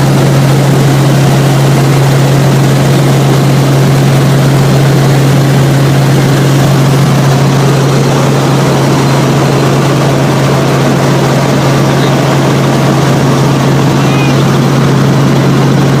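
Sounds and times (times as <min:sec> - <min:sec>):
constant low hum: 0:00.0 - 0:16.0
helicopter engine and rotors drone: 0:00.0 - 0:16.0.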